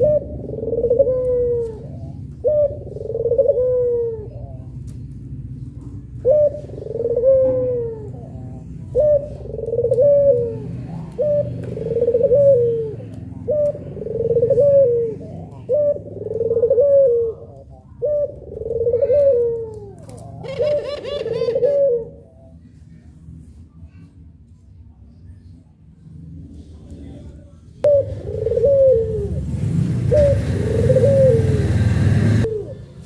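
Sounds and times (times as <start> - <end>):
dove cooing: 0.0 - 4.8, 6.0 - 22.6, 27.8 - 33.0.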